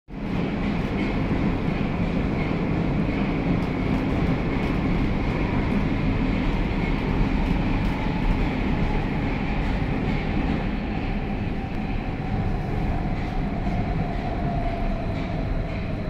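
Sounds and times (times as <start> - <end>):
metro train running: 0.1 - 16.0.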